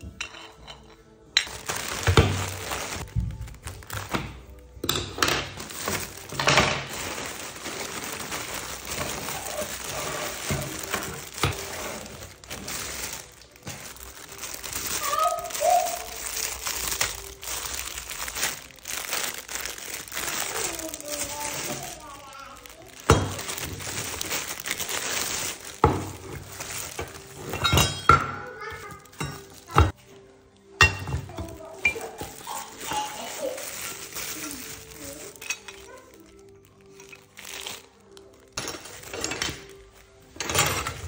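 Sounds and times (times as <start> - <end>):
plastic packaging crinkling: 1.4 - 30.2, 31.2 - 41.0.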